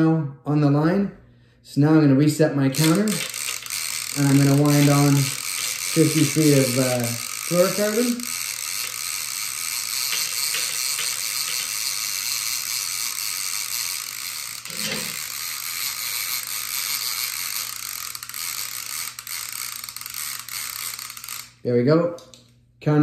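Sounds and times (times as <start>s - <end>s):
fishing reel cranking whir: 2.6s - 21.7s.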